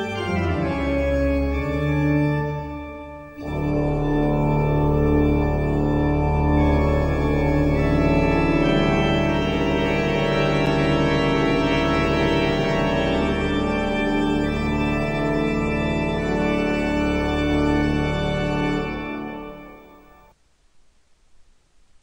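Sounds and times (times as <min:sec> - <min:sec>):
organ chords: 0:00.0 - 0:20.4.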